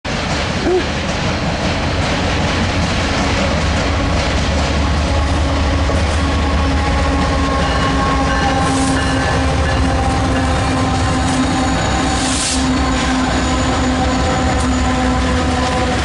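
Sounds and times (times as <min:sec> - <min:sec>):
locomotive engine rumble: 0:00.1 - 0:16.0.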